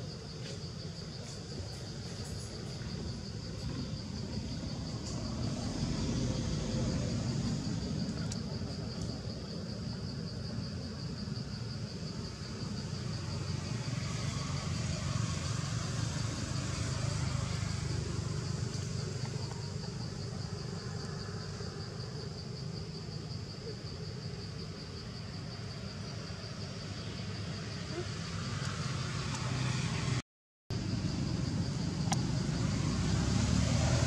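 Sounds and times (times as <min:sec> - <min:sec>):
insect trill: 0:00.0 - 0:34.0.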